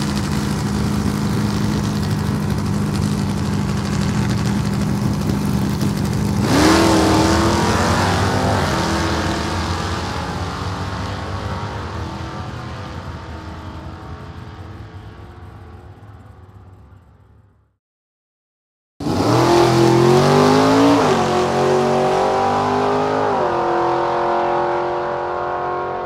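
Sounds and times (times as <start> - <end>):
car engine idling and revving: 0.0 - 17.7, 19.0 - 26.0.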